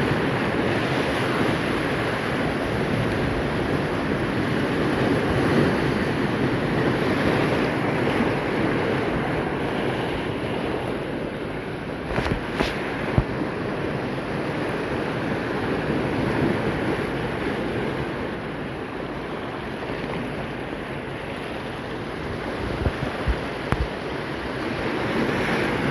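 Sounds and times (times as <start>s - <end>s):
sea swell breaking on shore: 0.0s - 25.9s
wind on microphone: 0.0s - 25.9s.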